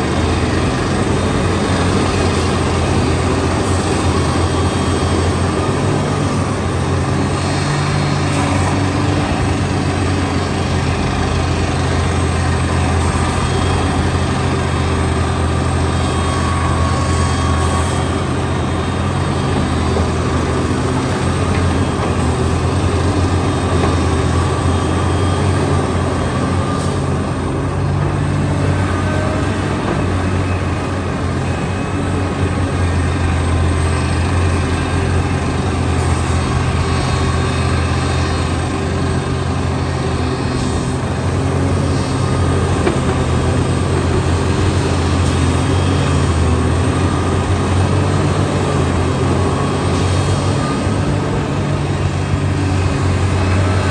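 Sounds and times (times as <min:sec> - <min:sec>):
heavy diesel engine humming: 0:00.0 - 0:53.9.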